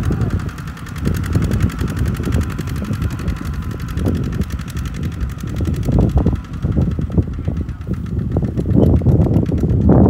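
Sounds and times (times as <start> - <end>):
tractor diesel engines under load: 0.0 - 10.0.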